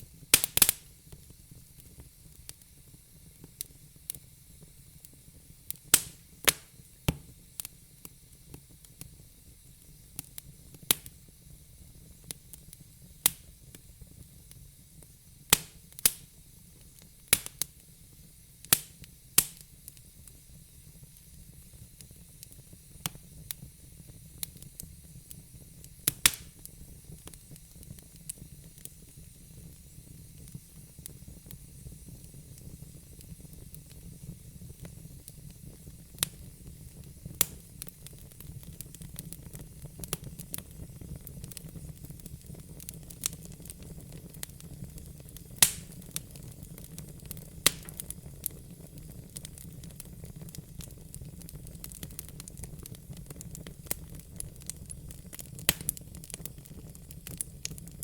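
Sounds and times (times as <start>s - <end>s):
faint fire hiss: 0.0s - 58.0s
fire crackling and popping: 0.0s - 58.0s.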